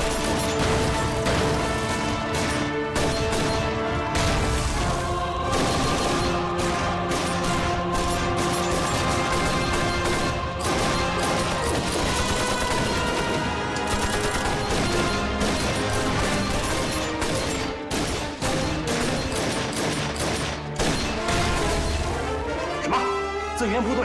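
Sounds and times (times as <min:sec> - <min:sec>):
pistol shots: 0:00.0 - 0:22.0
rapid gunfire: 0:00.0 - 0:22.2
dramatic background music: 0:00.0 - 0:24.0.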